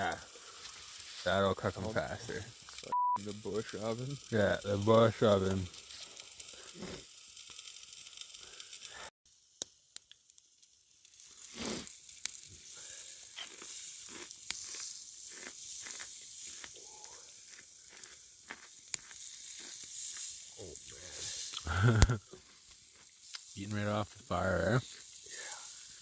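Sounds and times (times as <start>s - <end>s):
fire pops and crackles: 0.0s - 26.0s
meat sizzling on hot rock: 0.0s - 26.0s.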